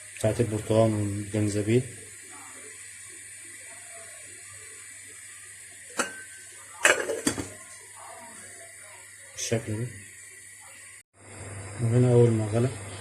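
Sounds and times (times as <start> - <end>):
pot heating with faint hiss: 0.0 - 13.0.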